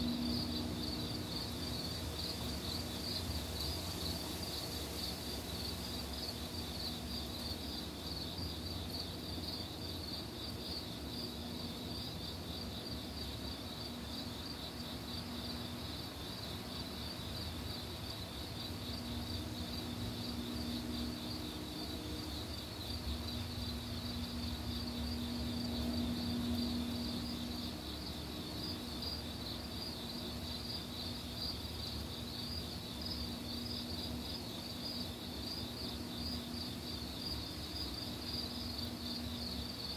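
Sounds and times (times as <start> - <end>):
night insects chirping: 0.0 - 39.9.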